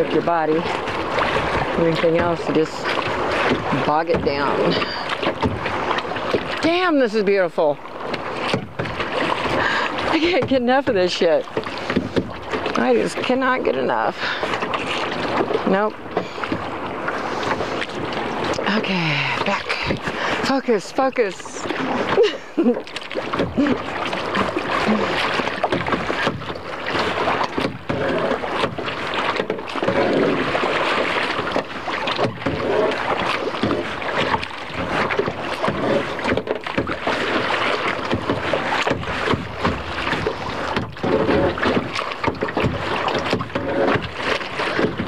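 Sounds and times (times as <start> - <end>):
paddle strokes: 0.0 - 45.0
water slapping against kayak hull: 0.0 - 45.0.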